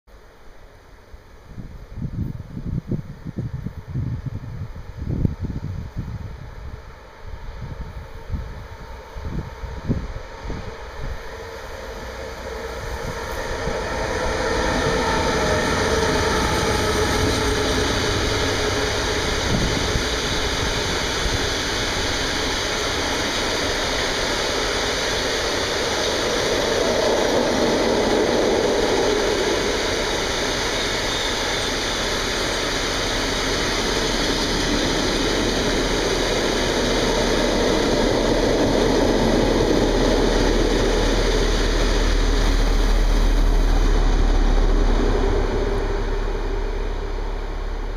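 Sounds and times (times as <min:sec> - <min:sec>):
diesel locomotive engine rumble: 0:00.1 - 0:47.9
electric locomotive whine: 0:00.1 - 0:47.9.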